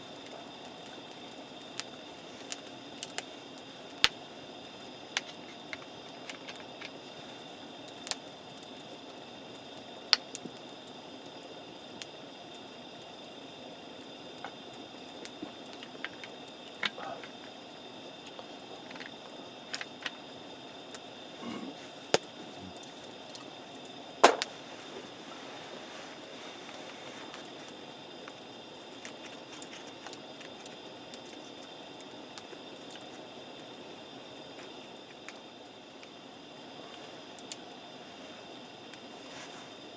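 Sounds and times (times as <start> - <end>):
campfire crackling: 0.0 - 39.9
fire popping and snapping: 0.0 - 39.9.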